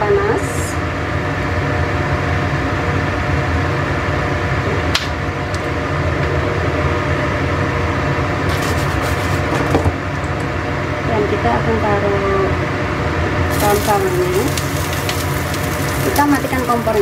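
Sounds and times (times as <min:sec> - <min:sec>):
kitchen appliance whirring hum: 0:00.0 - 0:17.0.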